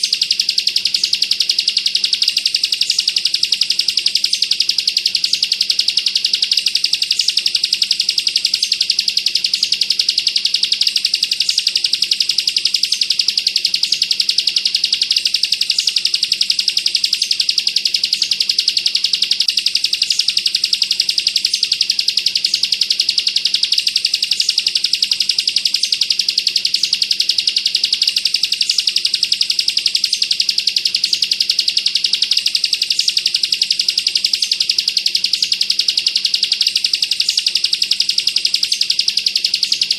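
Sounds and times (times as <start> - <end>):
bird singing rapid high trill: 0.0 - 39.9.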